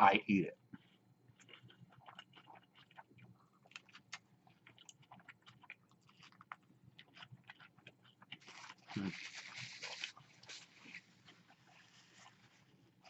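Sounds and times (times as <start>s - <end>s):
person chewing food: 0.6s - 13.0s.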